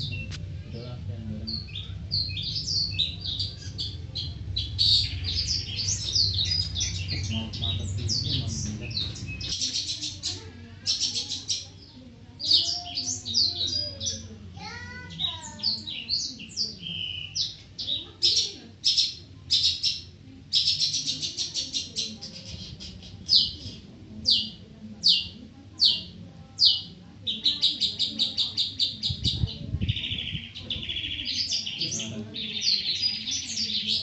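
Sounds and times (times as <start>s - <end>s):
bird singing: 0.0s - 34.0s.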